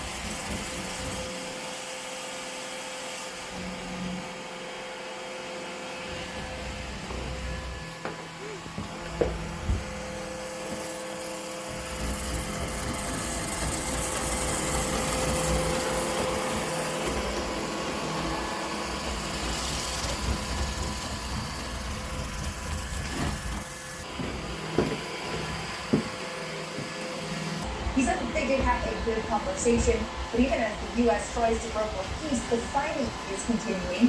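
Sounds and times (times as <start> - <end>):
robot vacuum running: 0.0 - 34.0.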